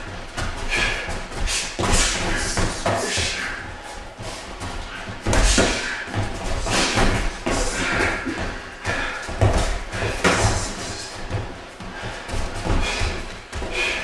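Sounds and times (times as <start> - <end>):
punches and kicks thudding on pads: 0.0 - 3.6, 4.9 - 14.0.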